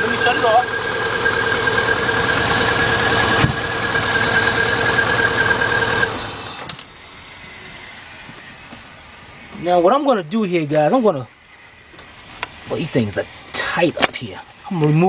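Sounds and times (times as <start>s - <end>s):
car engine idling rough: 0.0s - 15.0s.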